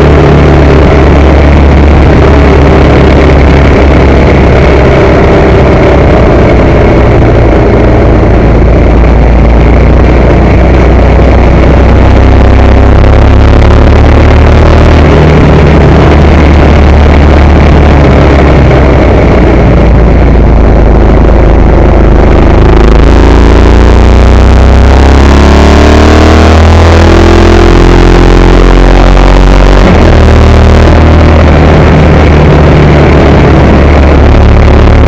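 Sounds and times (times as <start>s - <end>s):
motorcycle engine revving: 0.0s - 35.0s
wind noise: 0.0s - 35.0s.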